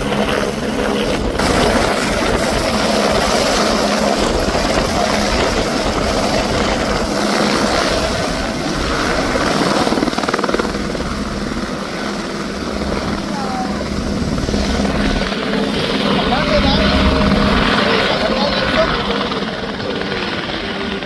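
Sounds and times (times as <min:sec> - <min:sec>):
helicopter rotor and turbine: 0:00.0 - 0:21.0.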